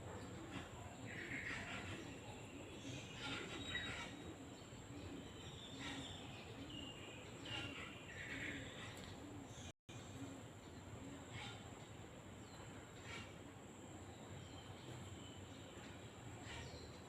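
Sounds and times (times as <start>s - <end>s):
birds chirping: 0.0s - 17.0s
steady background hiss: 0.0s - 17.0s.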